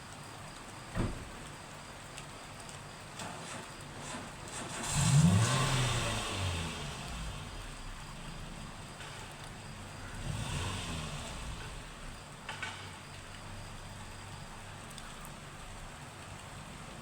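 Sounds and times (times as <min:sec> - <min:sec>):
steady rain: 0:00.0 - 0:17.0
car passing on wet road: 0:03.2 - 0:17.0.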